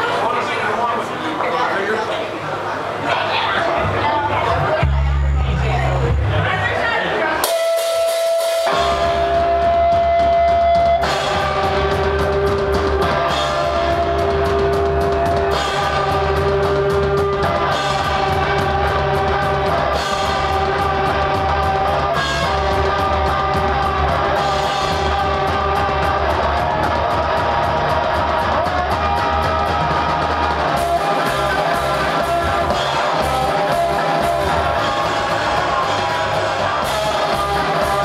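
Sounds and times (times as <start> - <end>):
punk rock band playing: 3.7 - 38.0
drums and cymbals crashing: 7.4 - 38.0.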